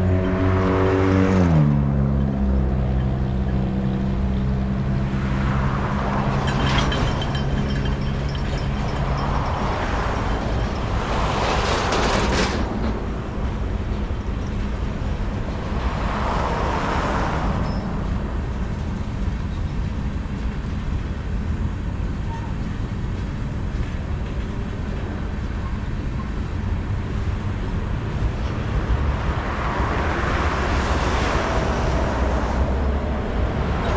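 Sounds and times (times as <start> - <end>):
freight train cars rolling: 1.8 - 33.9.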